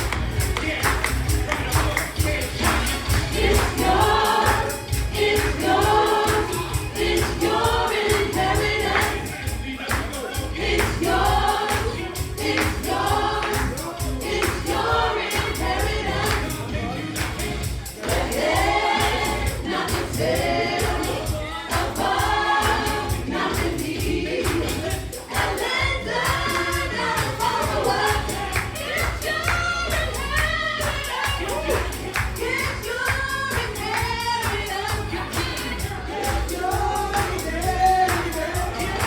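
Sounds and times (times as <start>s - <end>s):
band with steady beat: 0.0s - 39.0s
choir singing gospel: 0.0s - 39.0s.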